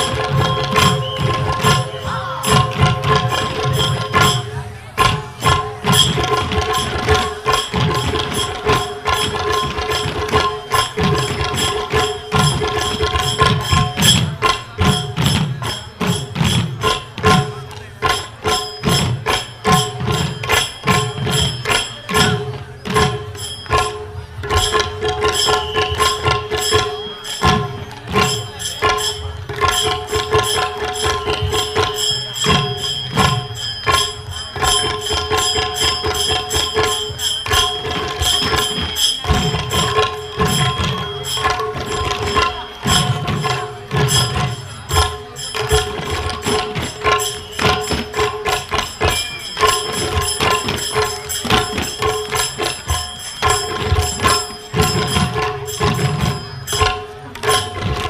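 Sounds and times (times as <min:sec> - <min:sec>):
barrel drums playing fast rhythm: 0:00.0 - 0:58.0
held melodic tone: 0:00.0 - 0:58.0.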